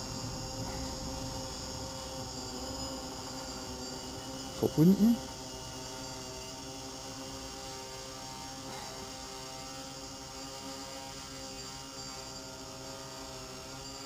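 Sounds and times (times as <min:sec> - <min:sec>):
multicopter propellers humming: 0:00.0 - 0:12.9.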